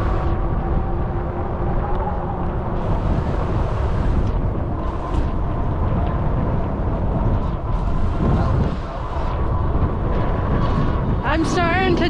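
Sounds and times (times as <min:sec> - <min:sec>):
faint steady whine: 0:00.0 - 0:12.0
wind on microphone: 0:00.0 - 0:12.0.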